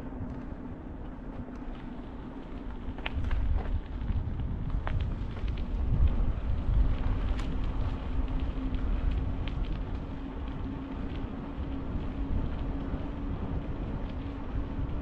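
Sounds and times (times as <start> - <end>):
steady low hum: 0.0 - 15.0
wind gusting on microphone: 0.0 - 15.0.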